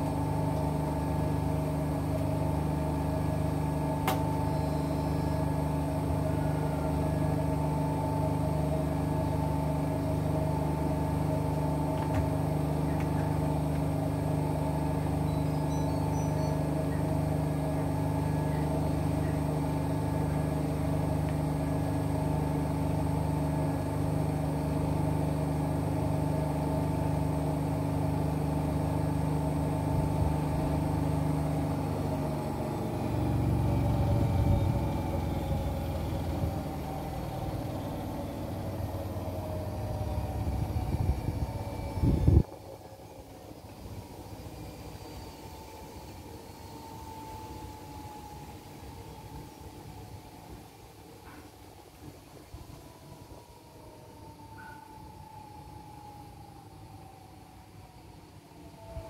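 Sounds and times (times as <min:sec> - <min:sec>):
washing machine motor hum and whine: 0:00.0 - 0:59.0
washing machine spin rumble: 0:00.0 - 0:59.0.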